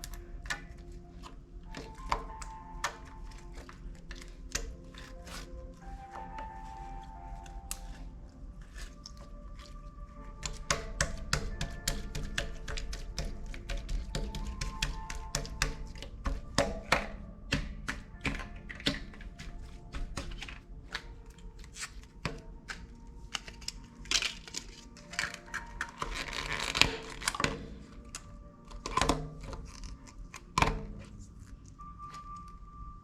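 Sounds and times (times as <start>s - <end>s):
soft background music: 0.0s - 33.0s.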